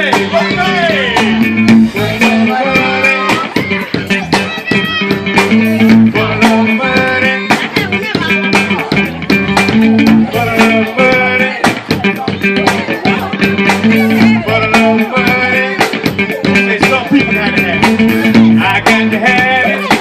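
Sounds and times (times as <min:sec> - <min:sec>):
band song with guitar: 0:00.0 - 0:20.0.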